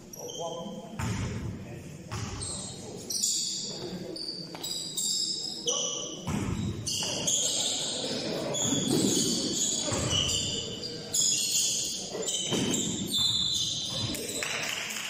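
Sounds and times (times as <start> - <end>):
general noise of play: 0.0 - 15.0
shoes squeaking on gym floor: 2.2 - 14.4.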